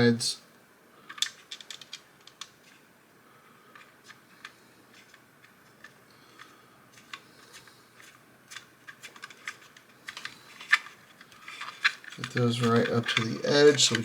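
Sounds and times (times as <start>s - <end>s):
small screws and plastic clicking: 1.1s - 2.8s, 3.7s - 14.0s.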